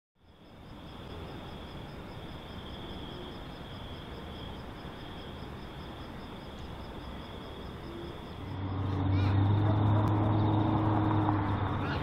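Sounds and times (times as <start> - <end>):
insects chirping: 0.2 - 12.0.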